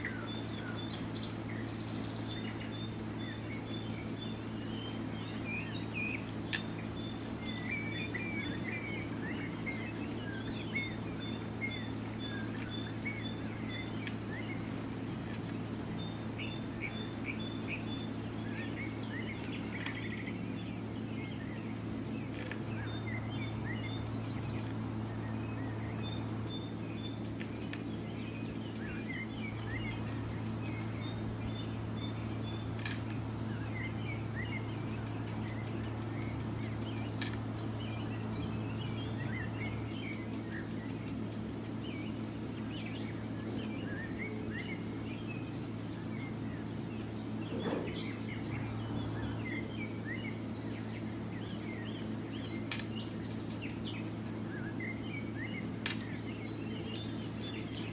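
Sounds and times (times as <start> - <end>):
small birds chirping: 0.0 - 57.9
steady low hum: 0.0 - 57.9.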